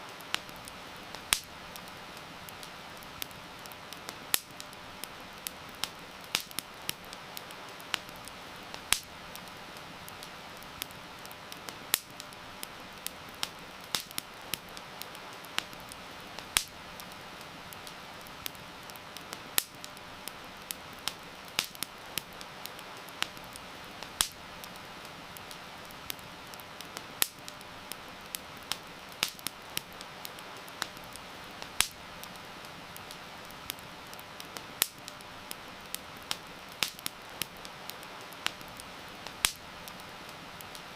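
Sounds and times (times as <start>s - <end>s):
campfire crackling and popping: 0.0s - 40.9s
heavy rain hiss: 0.0s - 40.9s.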